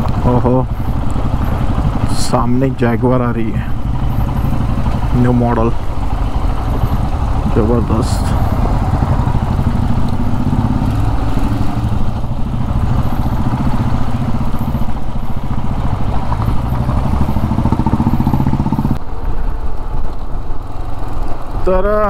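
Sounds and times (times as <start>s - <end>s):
motorcycle engine running: 0.0s - 22.0s
wind rumble: 0.0s - 22.0s.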